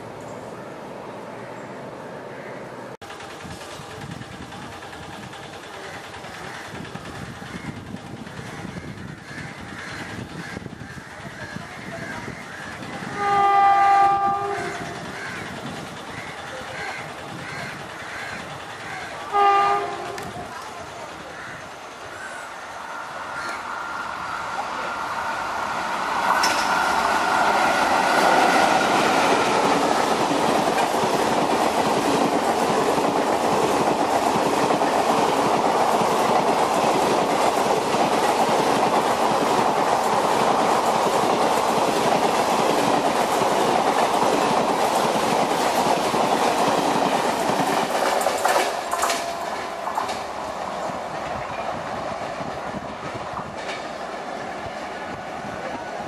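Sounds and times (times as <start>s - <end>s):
electric locomotive whine: 2.8s - 56.0s
train wheels clattering on rails: 3.0s - 22.4s, 25.6s - 55.8s.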